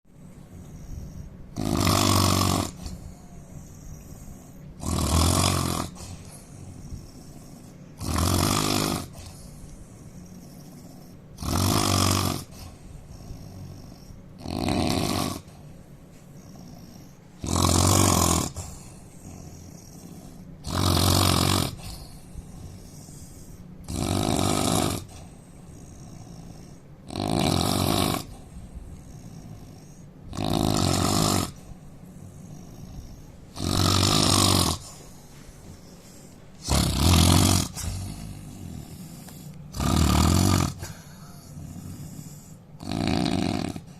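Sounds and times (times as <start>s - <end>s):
man snoring loudly: 0.8s - 9.4s, 10.2s - 15.6s, 16.4s - 28.4s, 29.0s - 35.1s, 36.6s - 43.9s.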